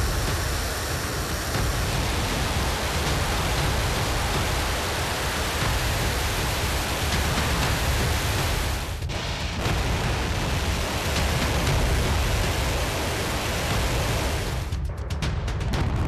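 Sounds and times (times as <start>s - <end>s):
rocket engines roaring: 0.0s - 14.7s.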